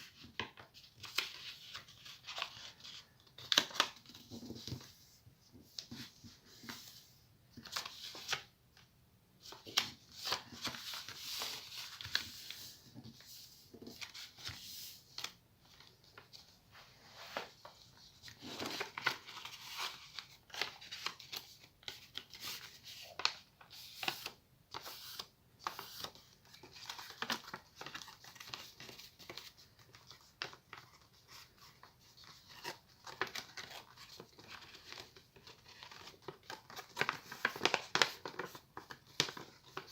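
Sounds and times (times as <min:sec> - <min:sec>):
paper crinkling and folding: 0:00.0 - 0:39.9.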